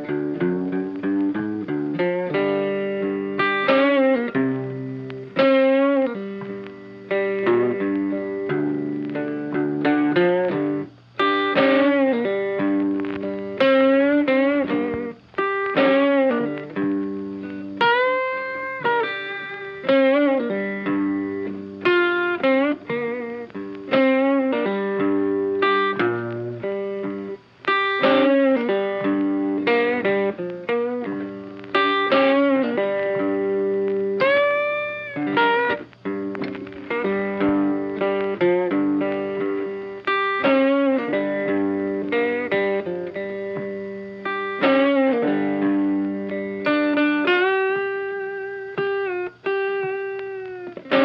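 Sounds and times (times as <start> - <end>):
instrumental music with picked notes: 0.0 - 51.0.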